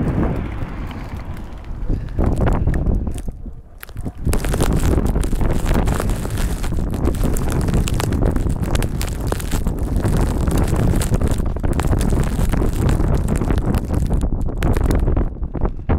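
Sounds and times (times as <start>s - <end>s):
blizzard wind buffeting microphone: 0.0s - 15.9s.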